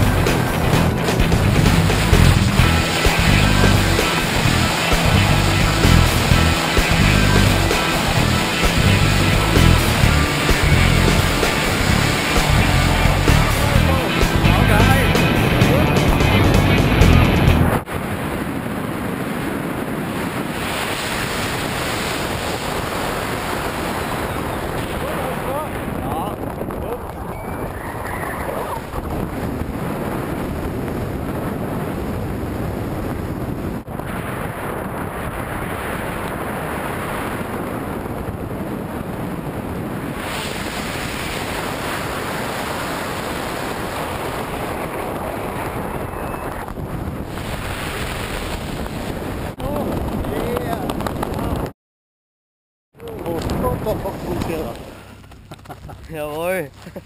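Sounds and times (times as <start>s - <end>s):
wind rushing over microphone: 0.0s - 51.7s, 53.0s - 55.2s.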